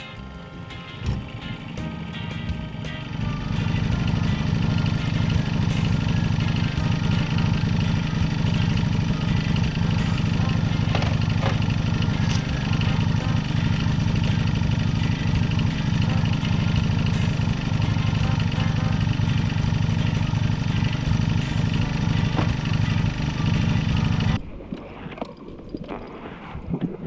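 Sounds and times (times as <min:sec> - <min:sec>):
engine running: 0:00.0 - 0:24.5.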